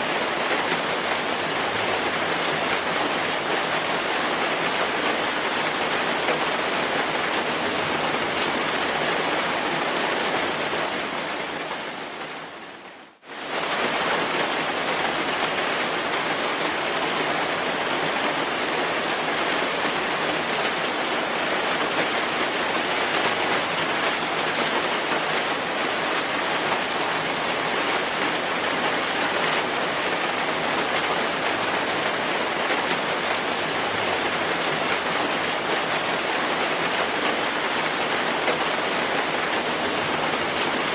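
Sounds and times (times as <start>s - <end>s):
dense rainfall: 0.0s - 40.9s.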